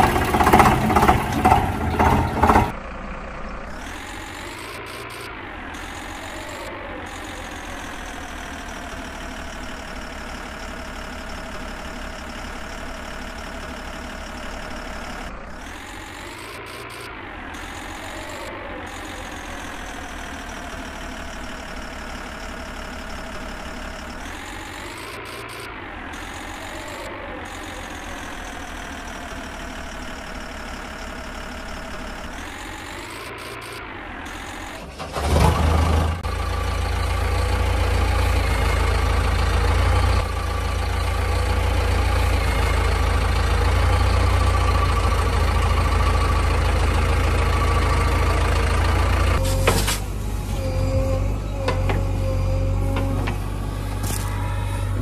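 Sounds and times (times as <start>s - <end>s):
deep engine rumbling: 0.0s - 55.0s
vehicle engine idling: 0.0s - 55.0s.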